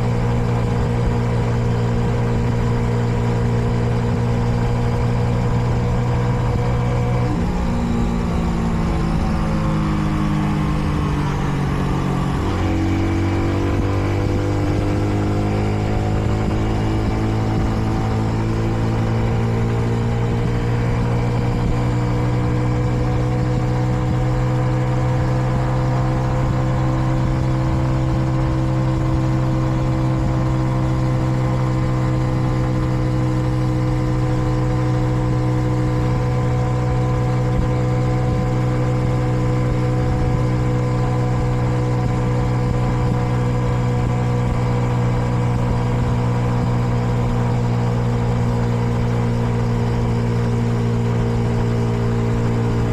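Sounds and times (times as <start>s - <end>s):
motorcycle engine cruising: 0.0s - 52.9s.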